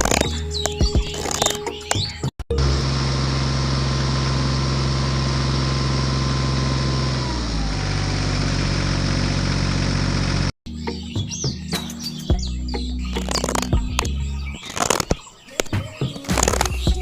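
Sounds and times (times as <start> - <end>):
engine running: 0.0 - 11.0, 12.5 - 15.2, 16.3 - 17.0.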